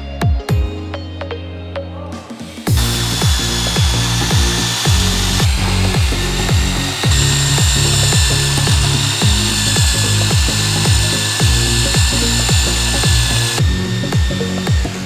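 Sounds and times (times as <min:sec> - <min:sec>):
electronic dance music: 0:02.2 - 0:15.0.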